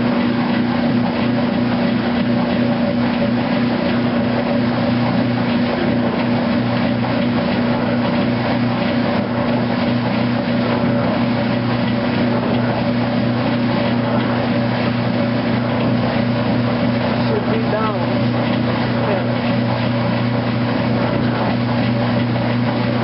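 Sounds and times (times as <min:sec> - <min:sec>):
washing machine motor hum: 0:00.0 - 0:23.0
washing water noise: 0:00.0 - 0:23.0.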